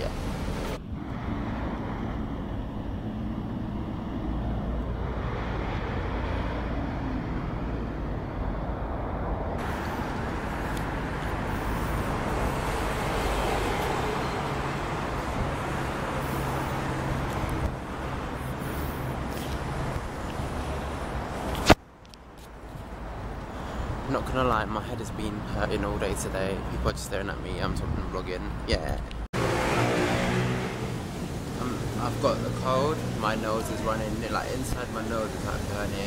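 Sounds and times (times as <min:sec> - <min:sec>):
car and bus engines running: 0:00.0 - 0:36.0.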